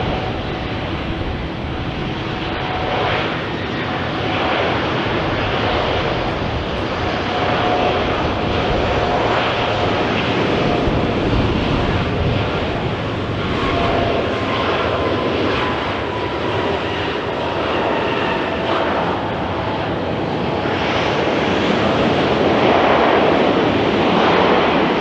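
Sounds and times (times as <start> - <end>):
jet airliner engines rushing: 0.0 - 25.0.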